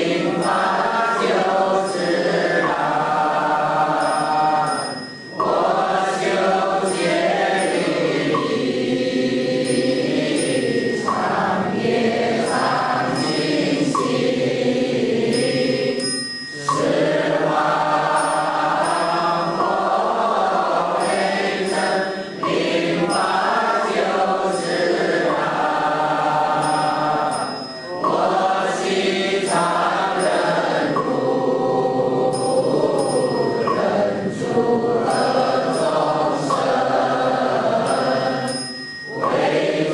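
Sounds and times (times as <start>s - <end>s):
group of voices chanting a hymn: 0.0s - 39.9s.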